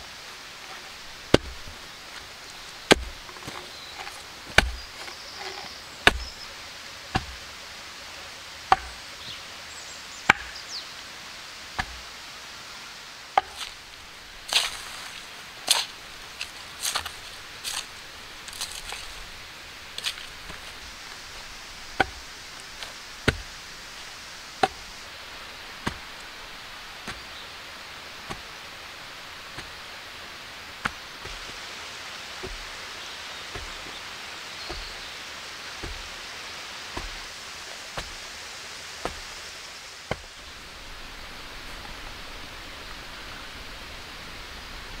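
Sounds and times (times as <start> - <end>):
steady hiss: 0.0 - 45.0.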